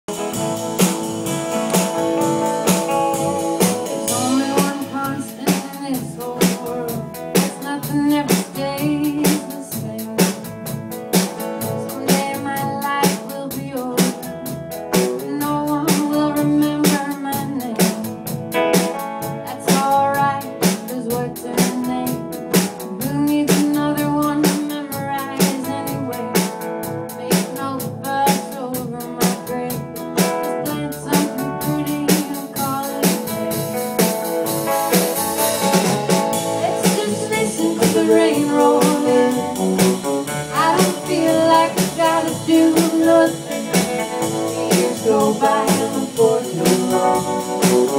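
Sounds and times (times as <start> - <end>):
blues guitar: 0.0 - 47.9
drum kit beat: 0.0 - 47.9.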